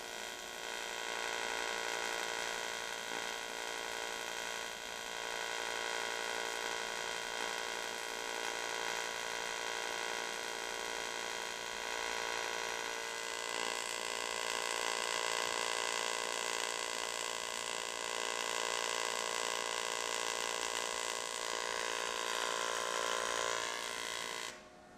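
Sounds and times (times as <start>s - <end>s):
welding arc buzzing: 0.0s - 24.7s.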